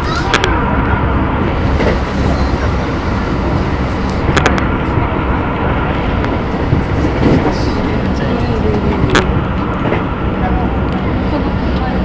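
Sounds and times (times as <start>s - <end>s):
rumble of train wheels on rail: 0.0s - 12.0s.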